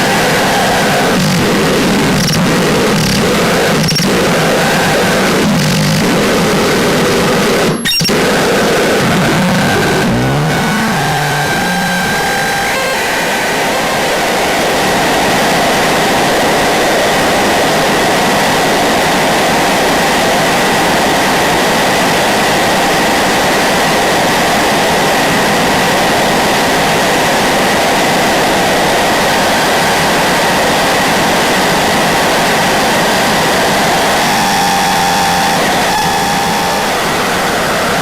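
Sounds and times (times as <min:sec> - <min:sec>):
distorted static noise music: 0:00.0 - 0:38.0.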